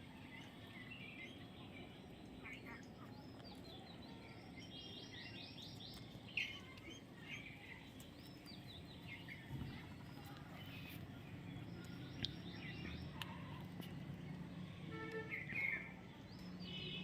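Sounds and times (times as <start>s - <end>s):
background noise: 0.0s - 17.0s.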